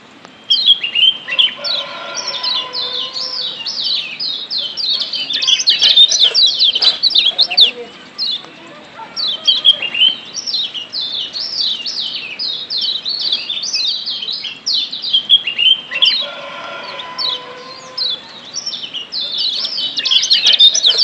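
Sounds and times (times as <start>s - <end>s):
bird rapid high chirps: 0.4s - 21.0s.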